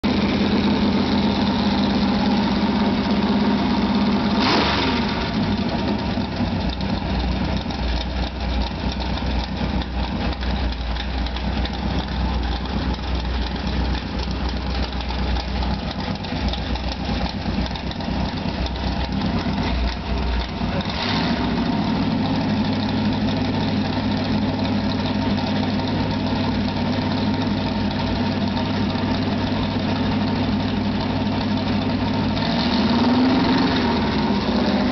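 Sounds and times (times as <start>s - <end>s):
vee eight engine idling: 0.0s - 34.9s.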